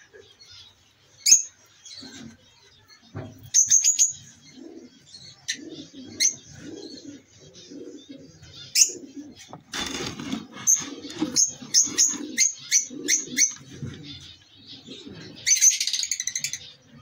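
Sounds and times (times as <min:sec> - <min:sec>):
lovebirds chirping: 0:00.0 - 0:17.0
soft low bird sounds: 0:00.0 - 0:17.0.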